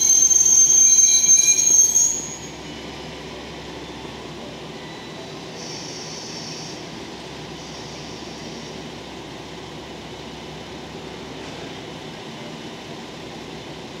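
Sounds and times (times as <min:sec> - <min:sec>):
diesel railcar engine rumble: 0:00.0 - 0:14.0.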